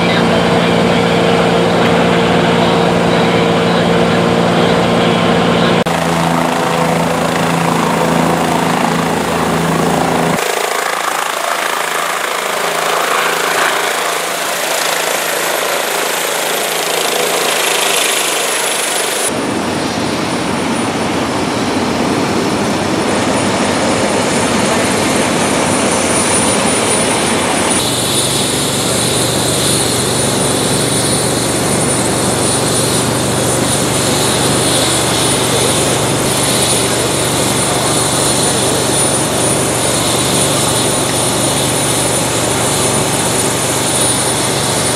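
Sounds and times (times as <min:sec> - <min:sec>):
helicopter rotor and turbine: 0:00.0 - 0:44.9.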